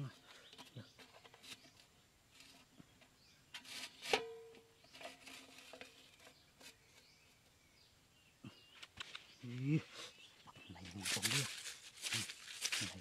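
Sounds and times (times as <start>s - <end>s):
rustling and scraping on dirt: 0.0s - 7.8s, 8.5s - 13.0s.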